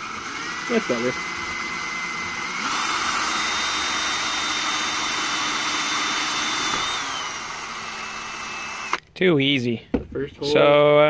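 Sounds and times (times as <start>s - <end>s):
power drill boring into metal: 0.0s - 9.0s.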